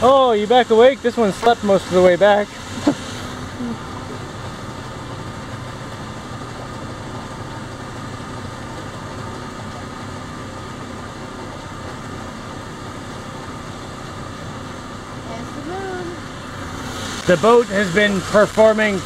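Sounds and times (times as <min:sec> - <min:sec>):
boat rushing through water: 0:00.0 - 0:19.0.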